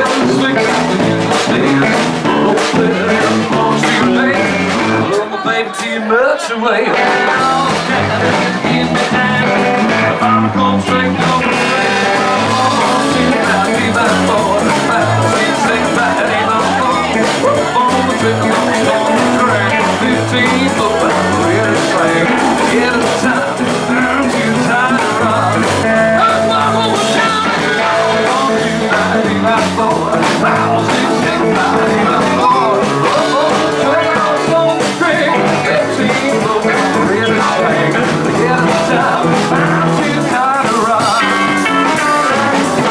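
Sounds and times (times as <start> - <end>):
drum kit: 0.0 - 42.9
electric guitar: 0.0 - 42.9
man singing into microphone: 0.0 - 42.9.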